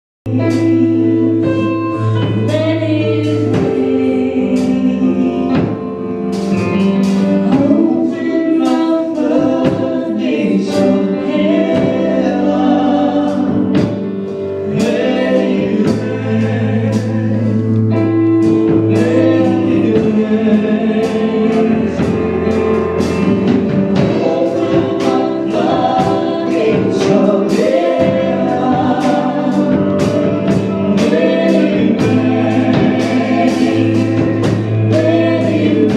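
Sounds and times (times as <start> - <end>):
bass: 0.2 - 35.9
drums: 0.3 - 35.9
gospel group singing: 0.3 - 35.9
keyboard or organ chords: 0.3 - 35.9.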